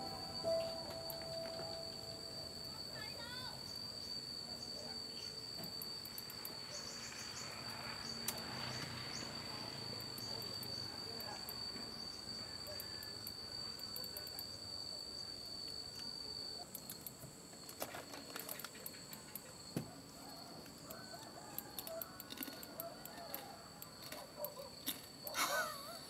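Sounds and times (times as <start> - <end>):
insect trilling: 0.0 - 26.0.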